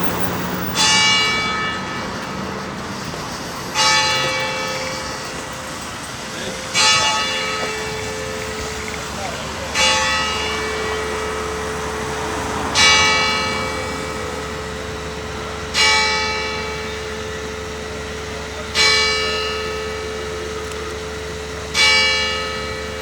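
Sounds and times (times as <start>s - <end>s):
church bell tolling: 0.0s - 23.0s.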